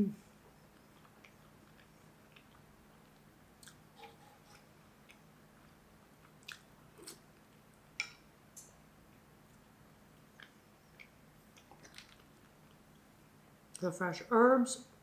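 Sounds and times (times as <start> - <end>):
quiet chewing: 0.2 - 13.9.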